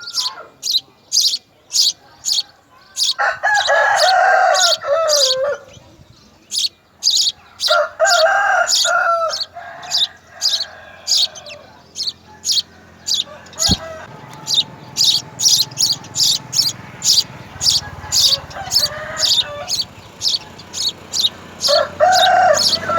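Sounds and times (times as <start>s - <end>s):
drawn-out low bird call: 0.0s - 22.9s
small birds chirping: 0.0s - 22.9s.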